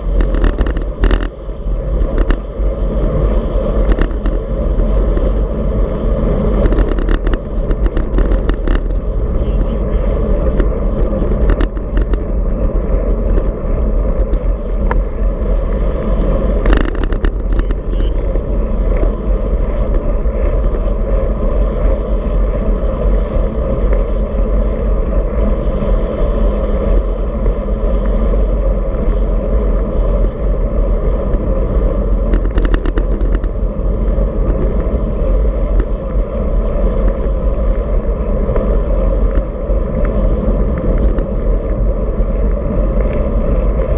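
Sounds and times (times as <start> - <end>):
tyre noise on asphalt: 0.0 - 43.9
wind rushing over microphone: 0.0 - 43.9.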